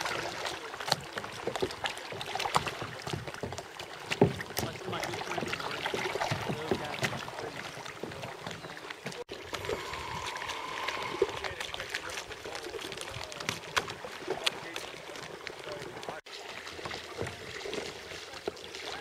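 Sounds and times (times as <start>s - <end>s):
kayak paddles splashing: 0.0s - 19.0s
water lapping at hulls: 0.0s - 19.0s.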